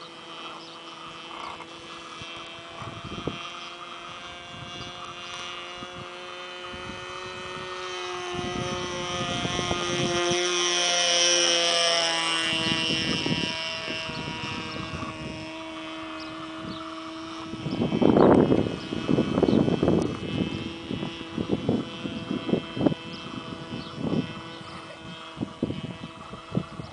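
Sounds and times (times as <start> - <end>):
model plane engine droning: 0.0 - 26.9
wind buffeting microphone: 0.0 - 26.9.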